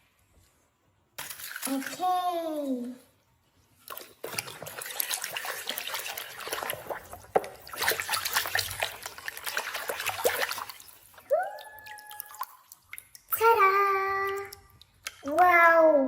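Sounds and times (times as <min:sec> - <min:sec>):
water splashing and trickling: 0:01.2 - 0:02.9, 0:03.6 - 0:15.6.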